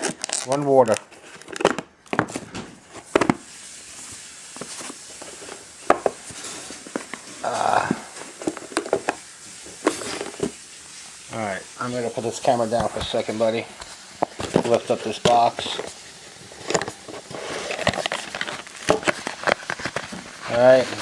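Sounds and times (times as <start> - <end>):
packaging rustle: 0.0 - 10.7, 12.3 - 21.0.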